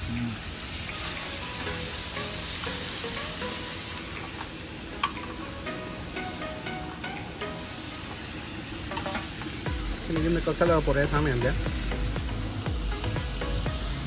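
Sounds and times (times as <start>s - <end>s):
meat sizzling on grill: 0.0s - 14.0s.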